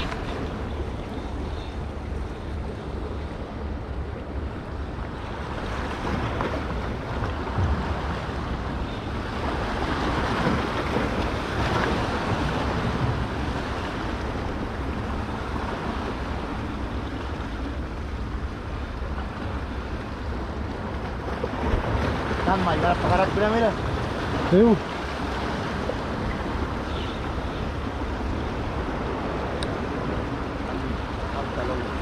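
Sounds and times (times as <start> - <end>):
waves splashing against rocks: 0.0 - 4.4, 5.1 - 32.0.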